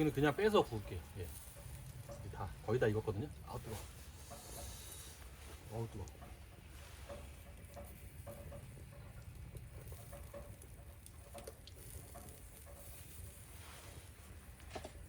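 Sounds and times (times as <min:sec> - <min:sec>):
light rain pattering: 0:00.0 - 0:15.0
small irregular ticks and clicks: 0:00.0 - 0:15.0.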